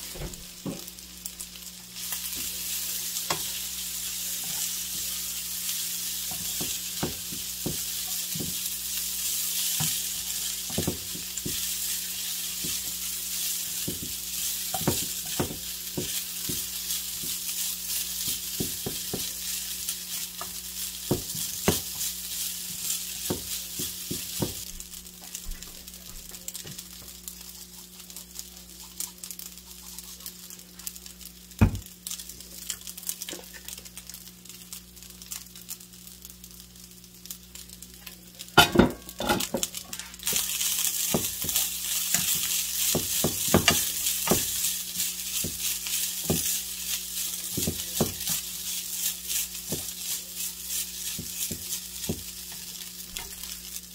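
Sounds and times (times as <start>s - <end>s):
rice sizzling in frying pan: 0.0s - 53.9s.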